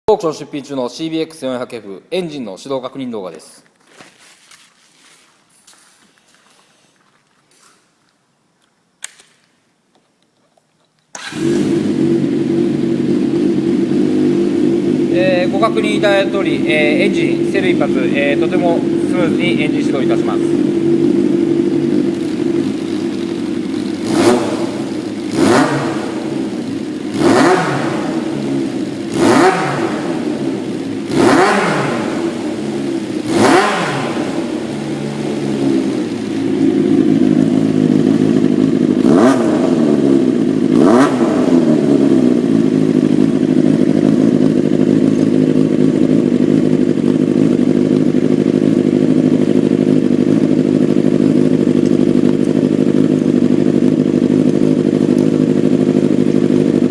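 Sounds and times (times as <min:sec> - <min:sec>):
motorcycle engine revving: 0:11.2 - 0:56.9.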